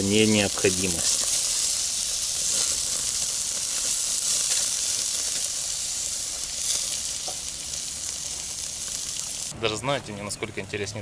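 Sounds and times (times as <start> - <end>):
meat sizzling on a grill: 0.0 - 9.5.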